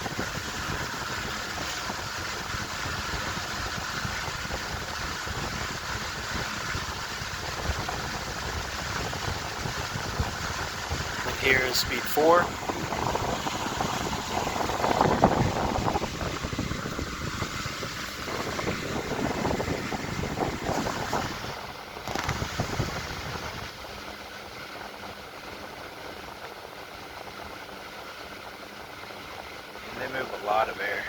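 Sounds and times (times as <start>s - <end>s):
electric fan air rushing: 0.0s - 31.0s
faint fan hum: 0.0s - 31.0s.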